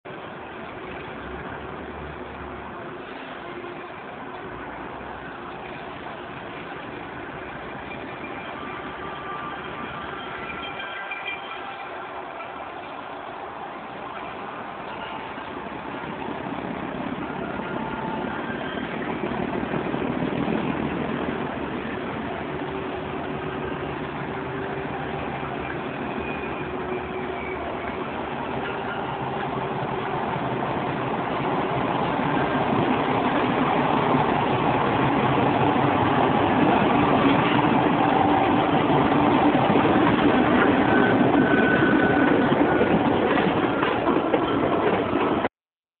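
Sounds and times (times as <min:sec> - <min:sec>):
diesel locomotive engine working hard: 0:00.1 - 0:45.5.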